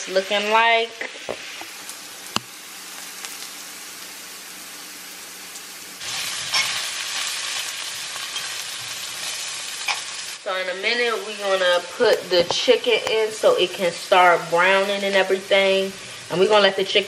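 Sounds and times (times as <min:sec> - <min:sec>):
vegetables sizzling in a skillet: 0:00.0 - 0:17.0.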